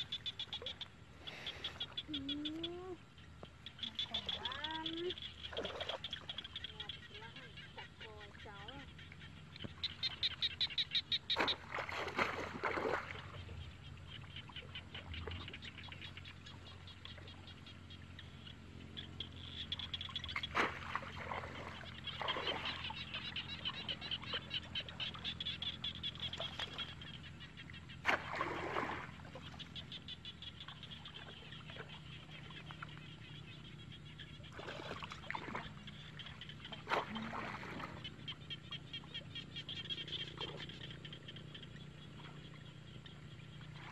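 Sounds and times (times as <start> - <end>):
water splashing and sloshing: 0.0 - 43.9.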